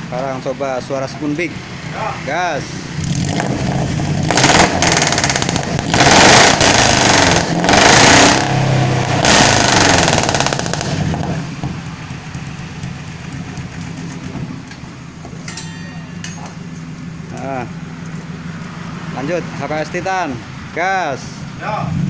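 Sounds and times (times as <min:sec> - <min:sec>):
truck engine revving and idling: 0:00.0 - 0:15.4, 0:16.2 - 0:22.0.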